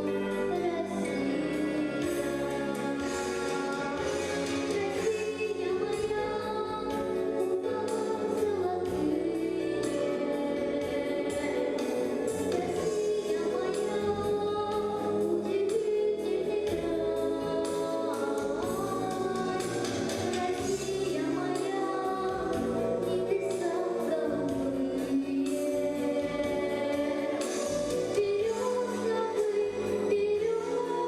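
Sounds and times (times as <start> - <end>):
music with steady beat: 0.0 - 31.0.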